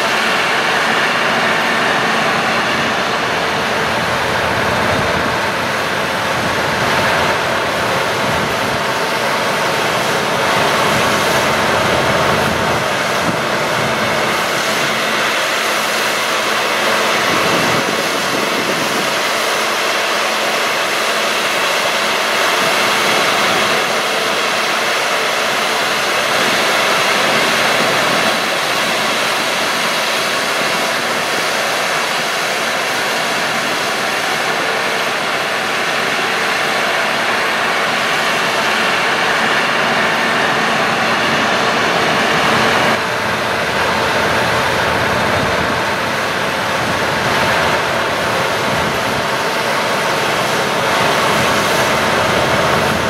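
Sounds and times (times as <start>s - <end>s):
drone propellers whining: 0.0s - 53.0s.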